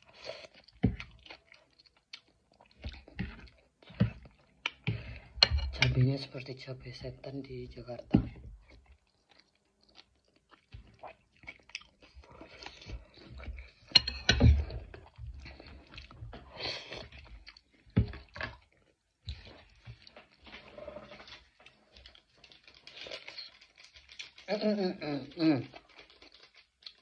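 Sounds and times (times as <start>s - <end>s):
person chewing crunchy food: 0.0s - 5.4s, 8.0s - 24.5s, 25.7s - 27.0s.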